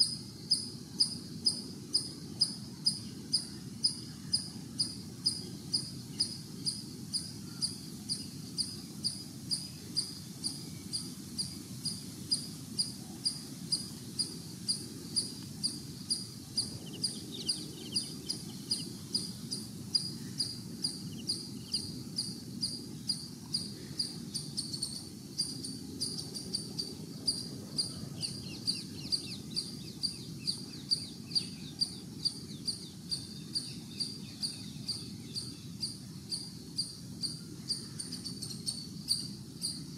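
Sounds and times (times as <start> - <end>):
cricket chirping: 0.0 - 39.9
low outdoor background hum: 0.0 - 39.9.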